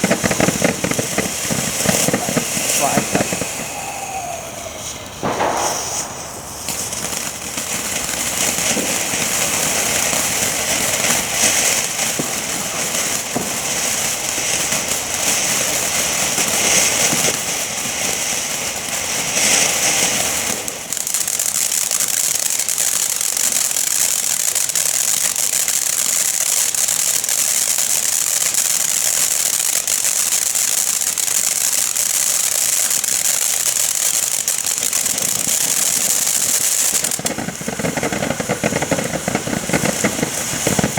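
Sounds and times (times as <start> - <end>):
firework fountain hissing sparks: 0.0 - 40.9.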